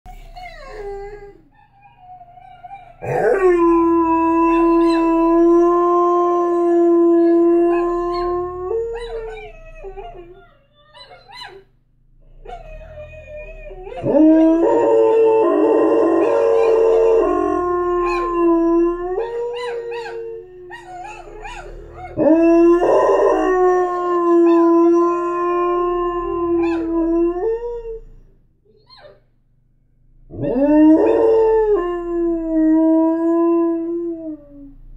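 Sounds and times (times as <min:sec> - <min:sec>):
dog howling: 0:00.5 - 0:11.6, 0:12.4 - 0:28.2, 0:30.3 - 0:34.7.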